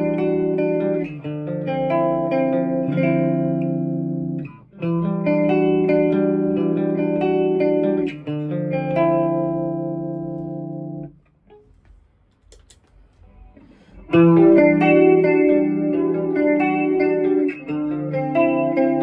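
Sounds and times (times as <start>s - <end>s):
electric guitar chords ringing: 0.0s - 11.2s, 13.9s - 19.0s.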